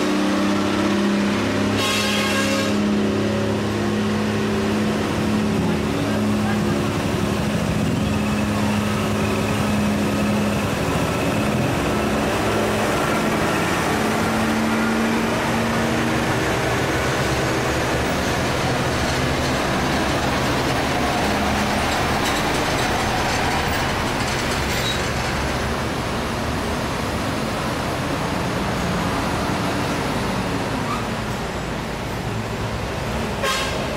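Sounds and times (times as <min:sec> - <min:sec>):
heavy trucks passing uphill: 0:00.0 - 0:33.9.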